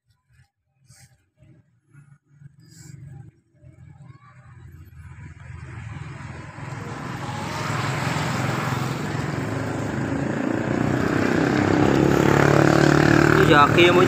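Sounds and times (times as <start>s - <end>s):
motor engine running: 2.6s - 14.0s.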